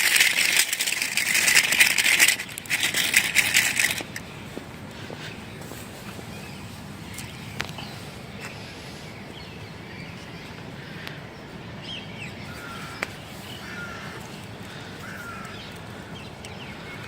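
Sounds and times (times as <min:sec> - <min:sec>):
steady background hiss: 0:03.2 - 0:17.0.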